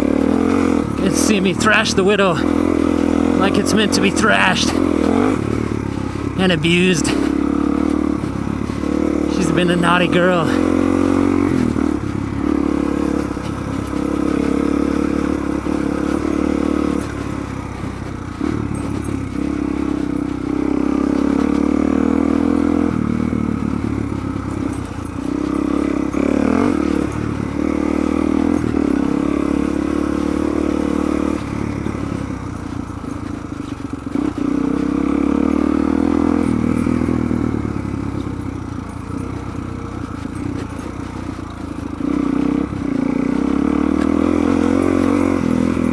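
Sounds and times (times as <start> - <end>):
motorcycle engine surging: 0.0 - 45.9.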